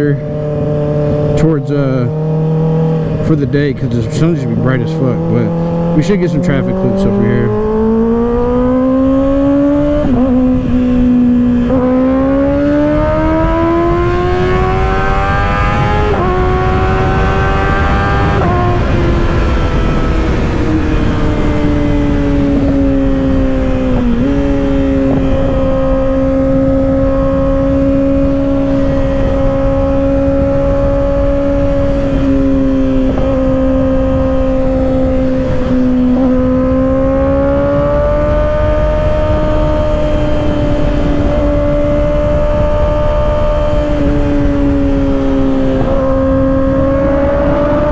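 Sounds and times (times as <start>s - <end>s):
motorcycle engine revving: 0.0s - 47.9s
wind rush: 0.0s - 47.9s.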